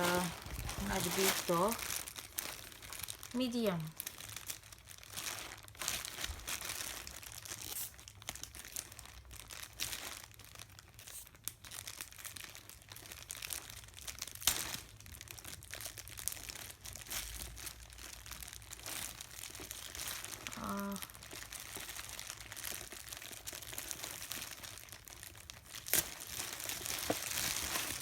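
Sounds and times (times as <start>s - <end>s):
packing material crinkling: 0.0s - 28.0s.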